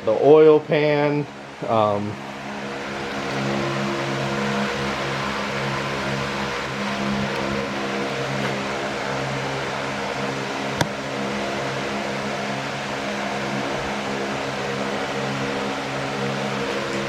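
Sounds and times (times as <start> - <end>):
constant hiss: 0.0 - 17.0
mechanical hum: 0.0 - 17.0.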